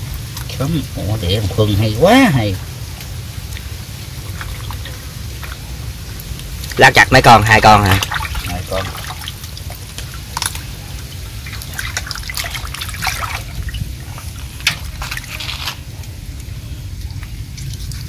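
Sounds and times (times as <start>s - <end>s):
water splashing and dripping: 0.0s - 18.0s.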